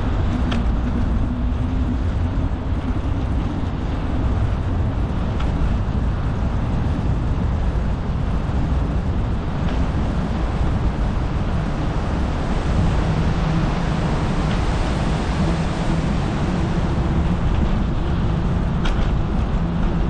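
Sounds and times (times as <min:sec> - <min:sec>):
bicycle tyres rolling: 0:00.0 - 0:20.0
wind buffeting microphone: 0:00.0 - 0:20.0.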